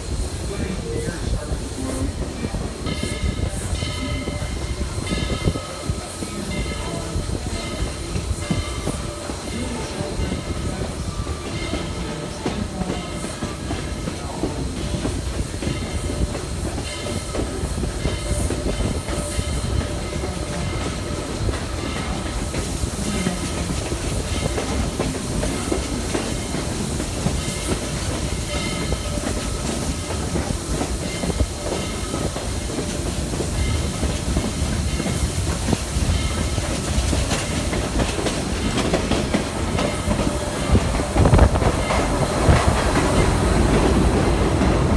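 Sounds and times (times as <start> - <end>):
train rumbling: 0.0 - 44.9
wheels clacking over rail joints: 1.2 - 44.9.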